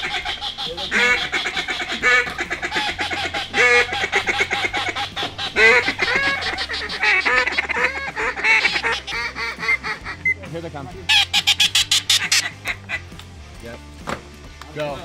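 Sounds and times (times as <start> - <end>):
flock of waterfowl calling: 0.0 - 10.4, 11.1 - 13.0.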